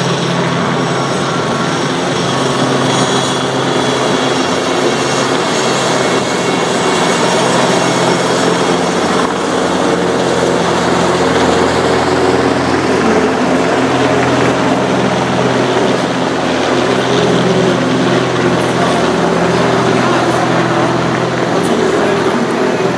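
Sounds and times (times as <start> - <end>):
helicopter rotor and turbine noise: 0.0 - 22.9.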